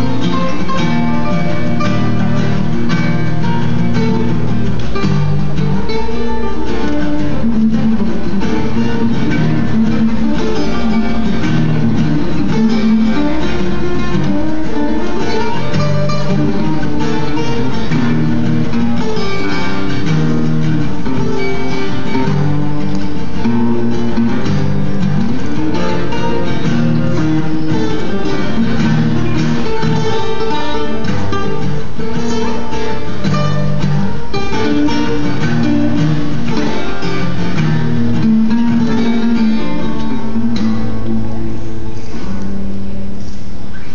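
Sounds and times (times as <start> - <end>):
guitar solo: 0.0 - 43.9.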